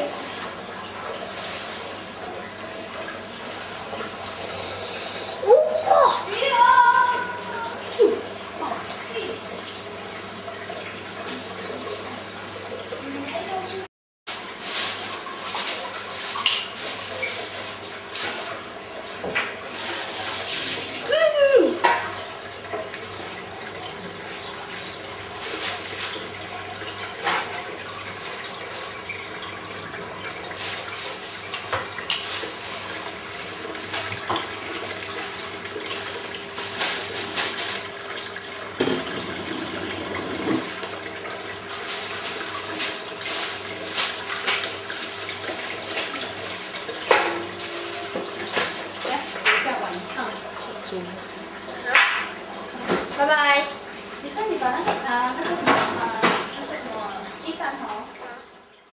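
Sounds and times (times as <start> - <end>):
aquarium water bubbling: 0.0 - 13.9, 14.7 - 58.9.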